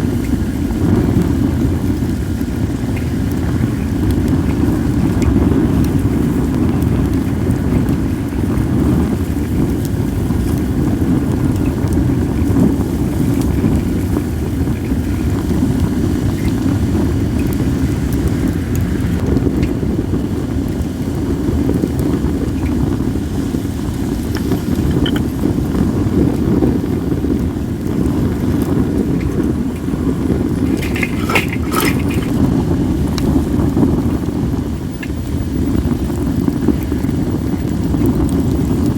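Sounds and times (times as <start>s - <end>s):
firewood crackling and popping: 0.0s - 38.9s
wind rumbling on microphone: 0.0s - 38.9s.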